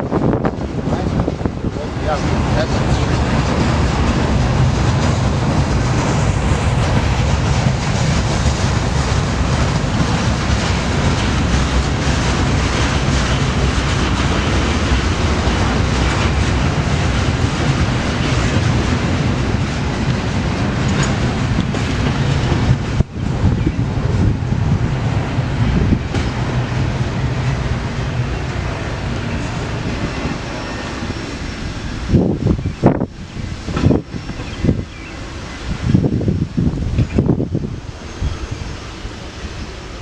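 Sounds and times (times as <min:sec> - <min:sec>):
freight train wheels clattering: 0:00.0 - 0:40.0.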